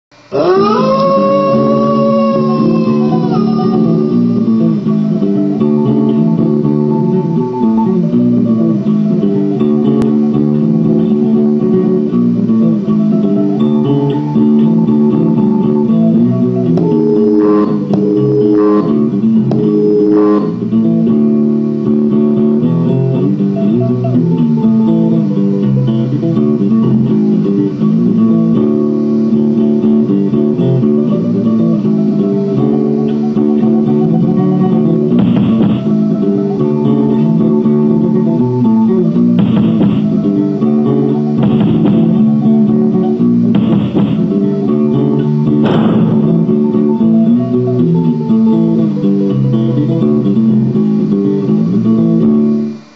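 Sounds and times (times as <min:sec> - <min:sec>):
plucked guitar music: 0:00.1 - 0:52.9
bass line: 0:00.6 - 0:52.6.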